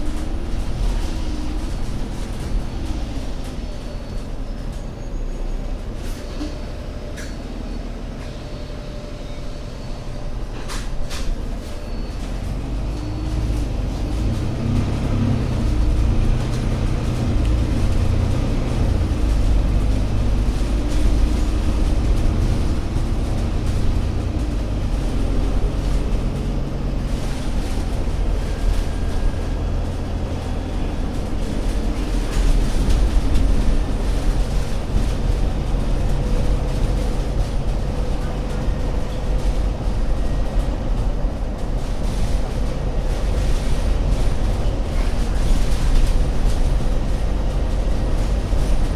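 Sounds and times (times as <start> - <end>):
bus diesel engine rumbling: 0.0 - 48.9.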